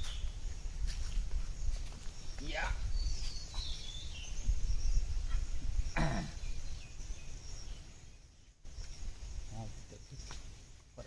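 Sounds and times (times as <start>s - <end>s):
insect buzz: 0.0s - 10.9s
bird calls: 0.0s - 11.0s.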